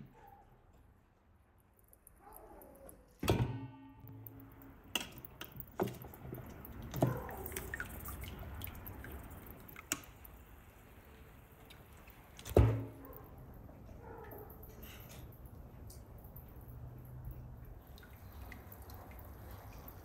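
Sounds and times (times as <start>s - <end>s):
broth dripping and splashing: 3.9s - 20.0s.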